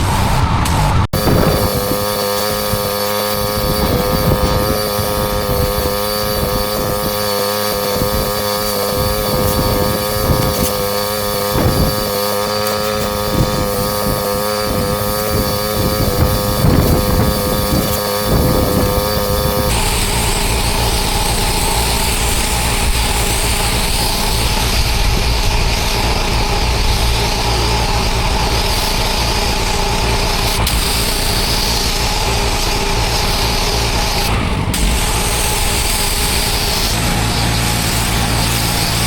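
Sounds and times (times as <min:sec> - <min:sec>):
pressure washer engine drone: 0:00.0 - 0:39.0
water spray hissing on paving: 0:01.2 - 0:39.0.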